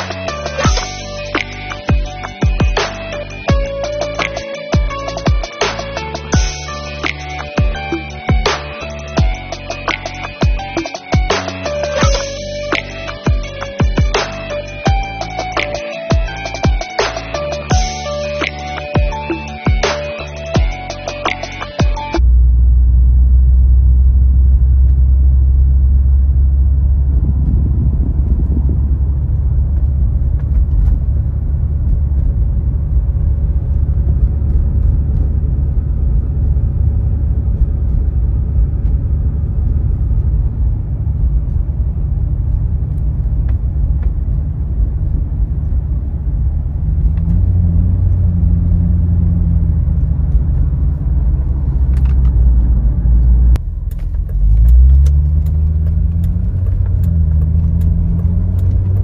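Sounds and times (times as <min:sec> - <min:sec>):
car engine drone from inside cabin: 0:00.0 - 0:59.0.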